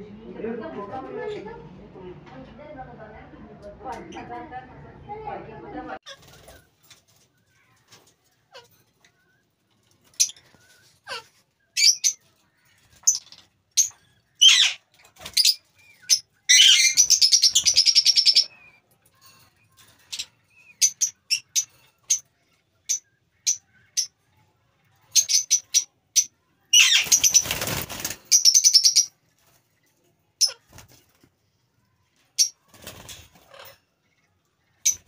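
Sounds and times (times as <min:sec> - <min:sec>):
fast rattling bird chatter: 0:06.0 - 0:31.4, 0:32.2 - 0:35.0
lovebirds chirping: 0:06.1 - 0:35.0.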